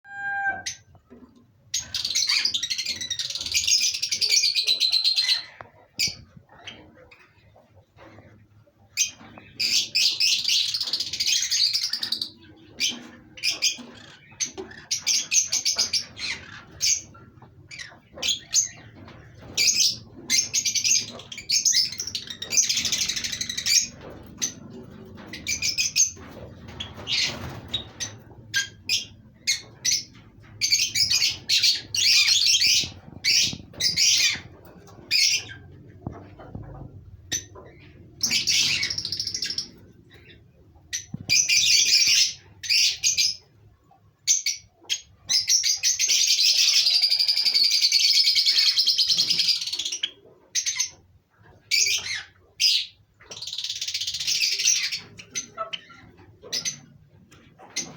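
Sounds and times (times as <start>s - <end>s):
birds chirping and twittering: 0.0s - 57.9s.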